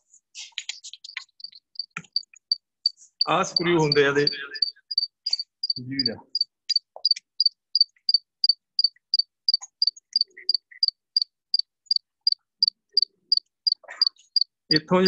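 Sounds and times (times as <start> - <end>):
insect chirping: 1.0 - 14.5.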